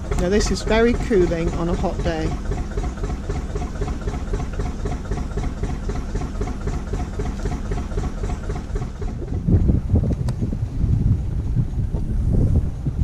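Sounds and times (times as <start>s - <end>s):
boat engine running steadily: 0.0s - 13.0s
low rumble: 0.0s - 13.0s.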